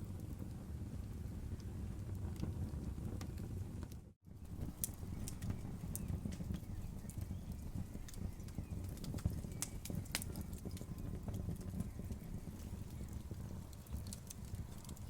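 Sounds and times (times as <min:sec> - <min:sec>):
low rumble of fire: 0:00.0 - 0:15.0
burning wood popping and snapping: 0:01.2 - 0:15.0.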